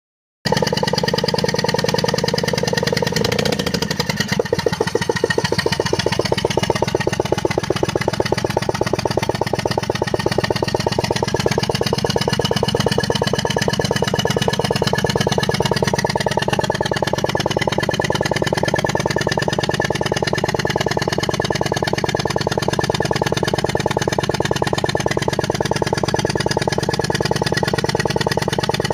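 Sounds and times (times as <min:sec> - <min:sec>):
car engine idling with misfire: 0:00.5 - 0:28.9.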